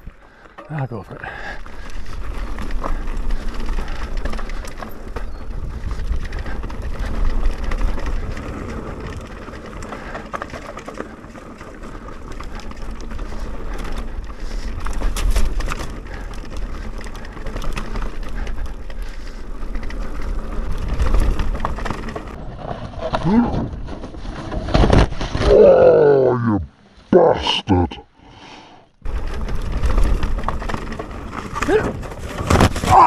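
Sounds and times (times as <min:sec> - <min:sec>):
bike rattling over bumps: 0:00.0 - 0:25.8, 0:29.0 - 0:33.0
bike tyre and riding noise: 0:00.0 - 0:25.8, 0:28.4 - 0:33.0.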